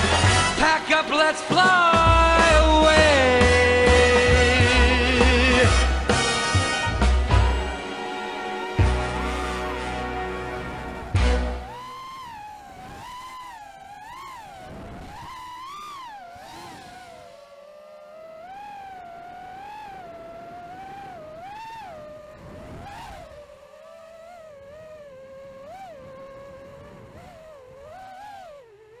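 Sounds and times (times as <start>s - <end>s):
model airplane motor whining: 2.6s - 29.0s.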